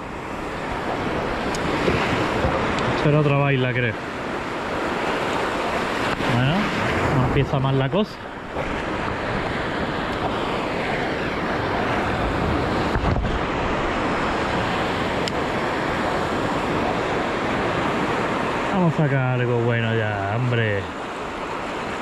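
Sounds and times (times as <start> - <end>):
wind buffeting microphone: 0.0 - 18.9
surf breaking over rocks: 0.0 - 22.0.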